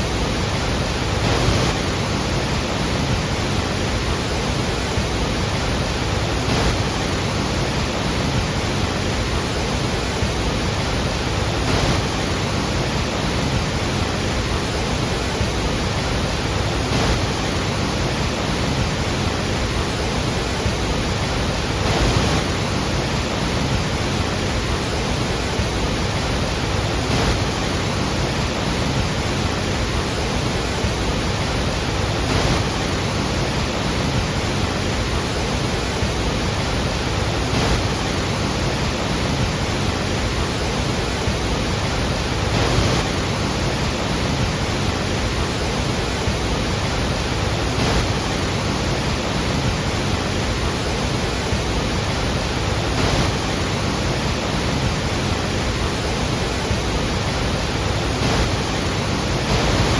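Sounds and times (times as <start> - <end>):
roar of waterfall: 0.0 - 59.9.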